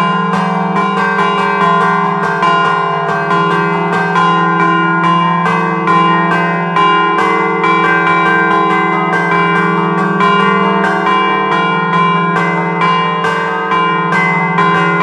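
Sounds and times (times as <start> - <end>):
church bells chiming: 0.0 - 15.0.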